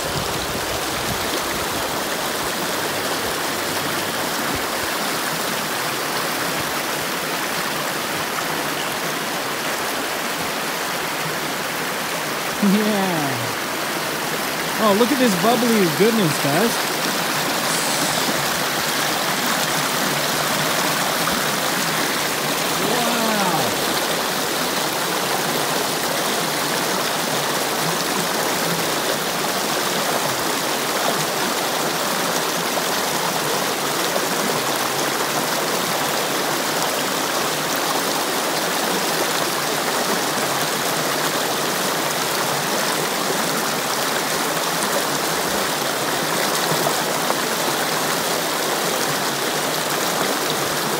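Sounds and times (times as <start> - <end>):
creek rushing over stones: 0.0 - 50.9.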